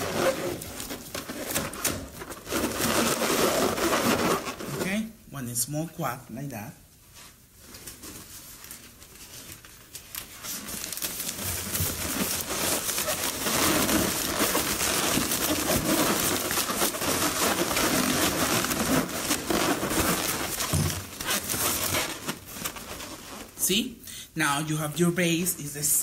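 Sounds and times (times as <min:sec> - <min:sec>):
balloons rubbing and crinkling: 0:00.0 - 0:05.2, 0:07.1 - 0:23.9.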